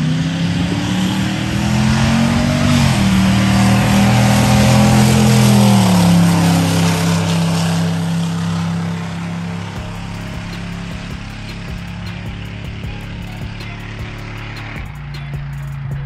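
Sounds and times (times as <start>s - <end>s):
pickup truck engine at full throttle: 0.0s - 16.0s.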